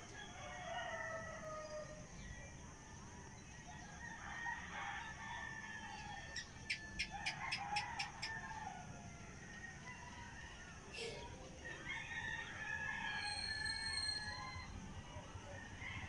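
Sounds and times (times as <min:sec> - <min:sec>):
rooster crowing: 0:00.0 - 0:02.7, 0:03.7 - 0:16.0.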